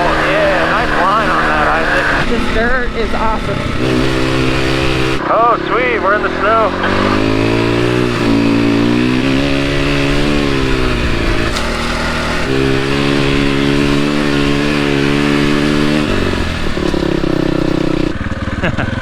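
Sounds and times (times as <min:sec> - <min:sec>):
dirt bike engine under throttle: 0:00.0 - 0:19.0.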